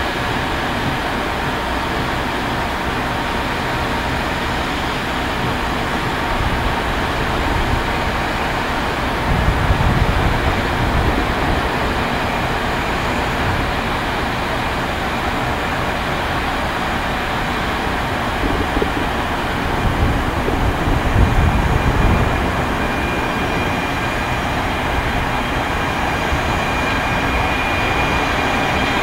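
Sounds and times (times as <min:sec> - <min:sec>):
electric locomotive running hum: 0:00.0 - 0:29.0.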